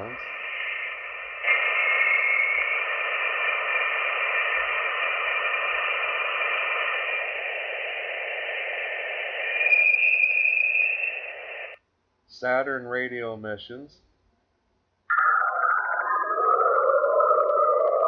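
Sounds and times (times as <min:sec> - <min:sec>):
steady hiss with whistling tones: 0:00.0 - 0:11.8, 0:15.1 - 0:18.0.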